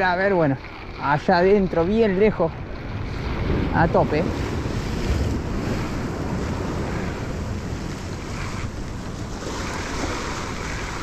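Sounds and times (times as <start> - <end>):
sea surf: 0.0 - 11.0
wind blowing across microphone: 0.0 - 11.0.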